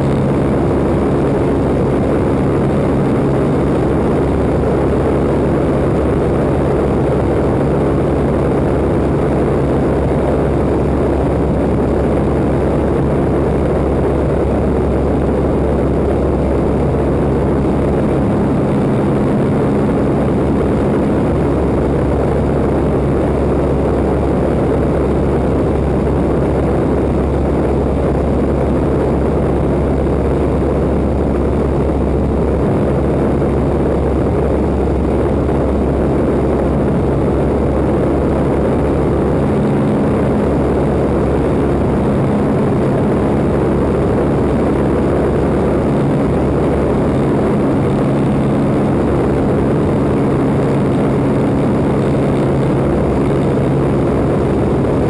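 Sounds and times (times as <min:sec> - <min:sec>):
airplane engine drone: 0:00.0 - 0:55.0
rushing wind: 0:00.0 - 0:55.0.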